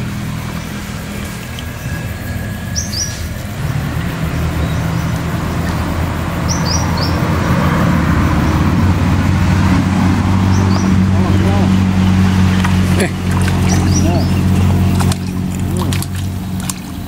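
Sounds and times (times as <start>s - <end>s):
small bird chirping: 0.0s - 7.3s, 10.5s - 17.0s
engine humming: 0.0s - 17.0s.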